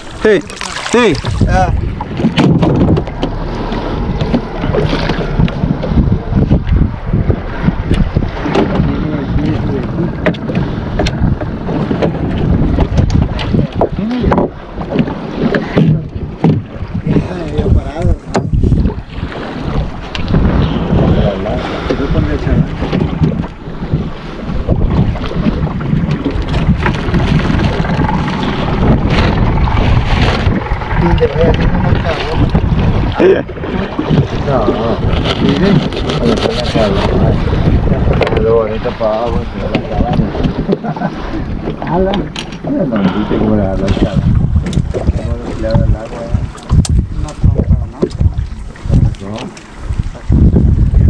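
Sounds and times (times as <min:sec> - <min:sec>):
water slapping boat hull: 0:00.0 - 0:51.0
wind buffeting microphone: 0:00.0 - 0:51.0.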